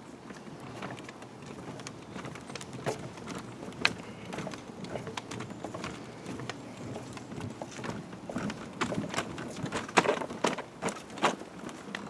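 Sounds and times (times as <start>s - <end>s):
stroller wheels on wooden boards: 0.0s - 12.0s
footsteps on wooden boards: 0.2s - 12.0s.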